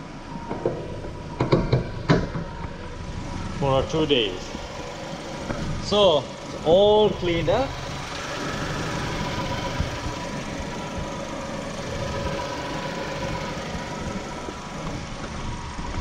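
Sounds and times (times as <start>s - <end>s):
car engine idling: 0.0s - 16.0s
steady whine: 0.0s - 16.0s.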